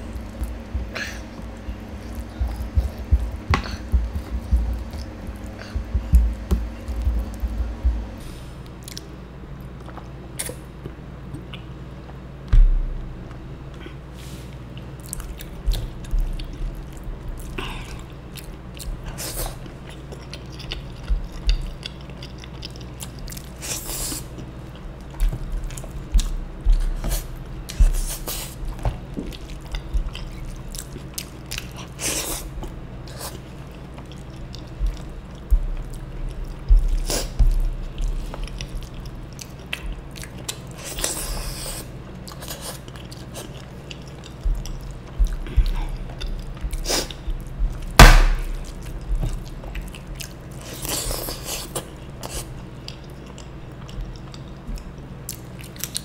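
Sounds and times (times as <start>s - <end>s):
wet chewing: 0.0s - 9.1s, 14.7s - 56.0s.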